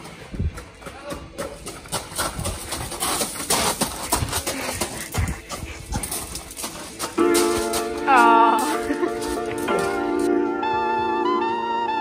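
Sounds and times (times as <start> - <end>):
running footsteps on gravel: 0.0 - 10.3.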